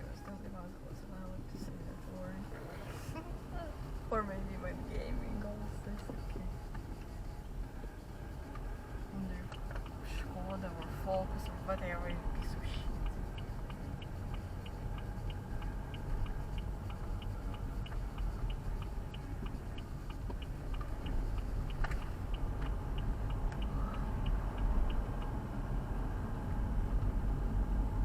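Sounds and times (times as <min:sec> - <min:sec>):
low rumble of car driving: 0:00.0 - 0:28.0
car turn signal ticking: 0:03.4 - 0:28.0.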